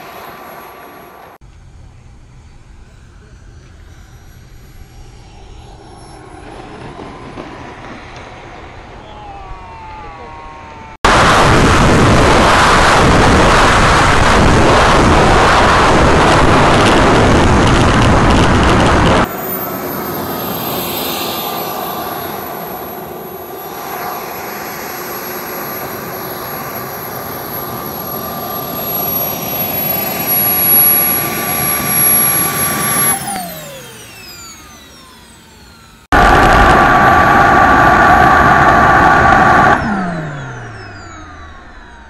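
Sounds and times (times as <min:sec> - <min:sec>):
louder turbine whine: 0:00.0 - 0:42.0
small turbine engine whining: 0:00.0 - 0:42.0.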